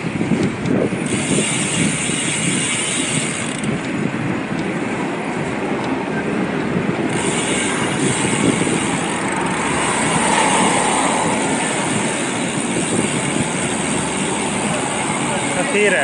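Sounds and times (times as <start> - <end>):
bicycle road noise: 0.0 - 16.0
wind over microphone: 0.0 - 16.0.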